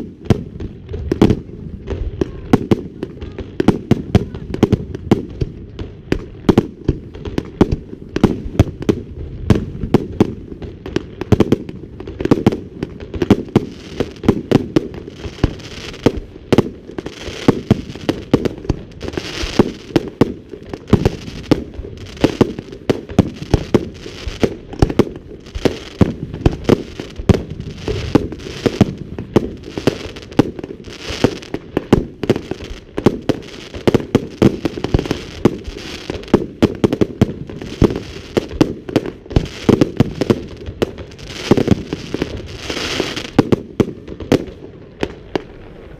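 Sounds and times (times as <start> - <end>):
fireworks bursting: 0.0 - 45.9
rumble of fireworks: 0.0 - 45.9.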